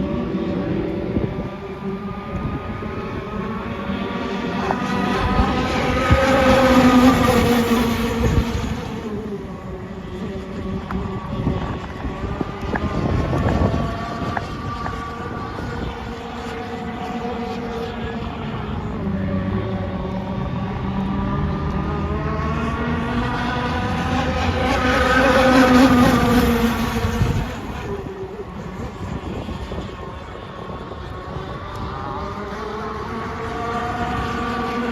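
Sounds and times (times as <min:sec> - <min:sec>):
boat petrol engine passing: 0:00.0 - 0:34.9.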